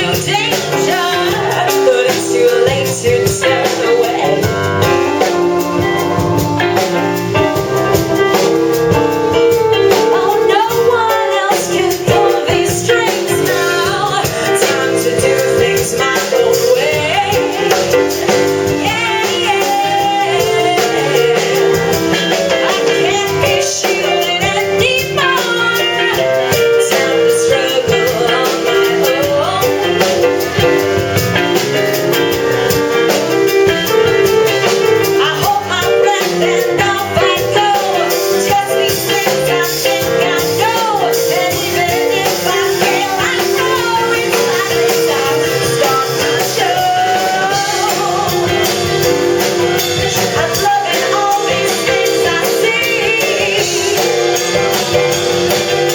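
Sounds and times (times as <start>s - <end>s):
song with singing and drums: 0.0s - 55.9s.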